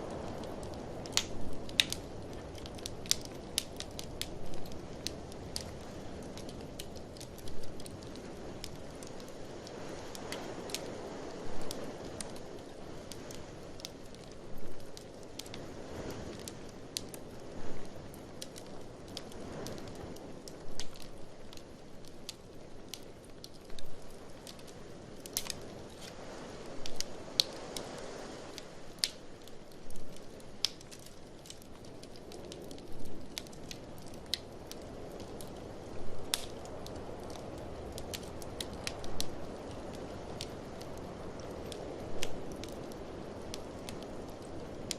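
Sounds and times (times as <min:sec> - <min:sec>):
blizzard wind: 0:00.0 - 0:44.9
wood fire crackling and popping: 0:00.0 - 0:44.9.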